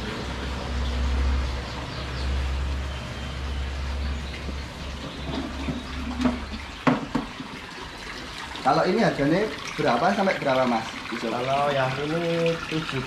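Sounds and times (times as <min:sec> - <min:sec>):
running water hissing: 0:02.3 - 0:13.0.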